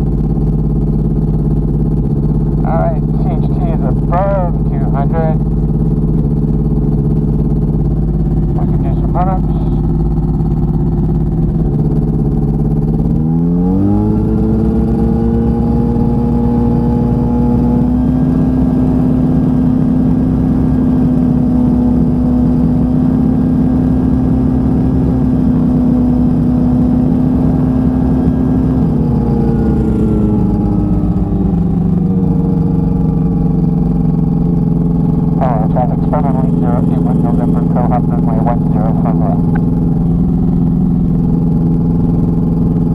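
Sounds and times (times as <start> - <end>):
propeller aircraft engine revving: 0.0 - 42.9.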